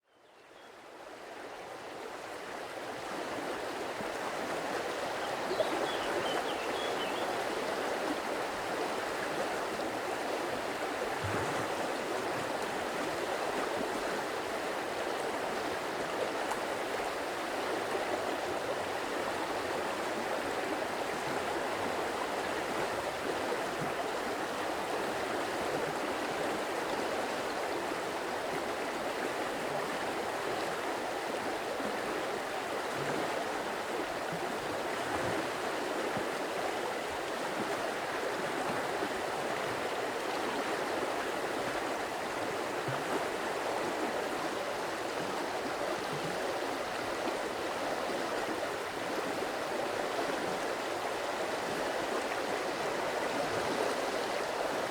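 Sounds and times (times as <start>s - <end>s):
stream water rushing: 1.8s - 54.9s.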